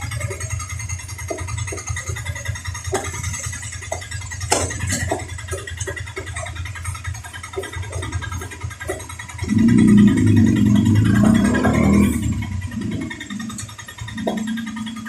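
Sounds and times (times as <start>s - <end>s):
engine running with low drone: 0.0s - 15.0s.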